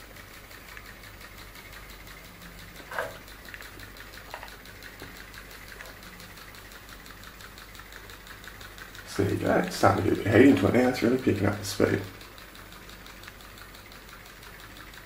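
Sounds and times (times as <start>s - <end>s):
steam boat ticking: 0.0s - 15.0s.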